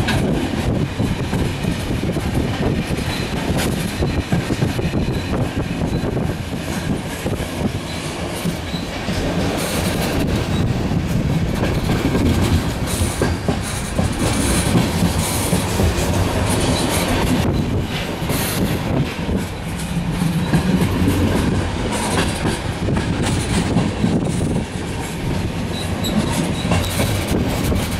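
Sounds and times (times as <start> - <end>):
train rumble: 0.0 - 27.9
wheels clicking over rail joints: 0.0 - 27.9.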